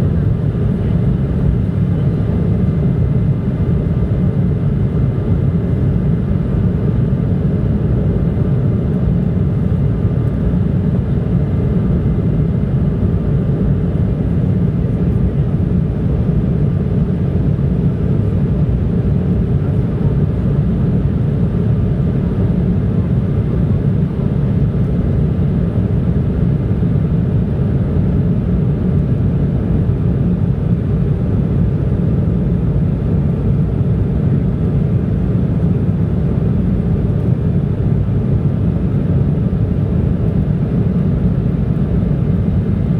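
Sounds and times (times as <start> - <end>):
jet engine rumble: 0.0 - 42.9.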